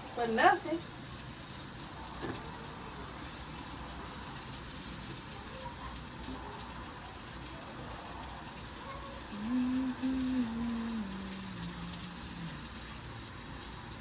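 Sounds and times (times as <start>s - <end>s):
hot dogs sizzling on grill: 0.0s - 14.0s.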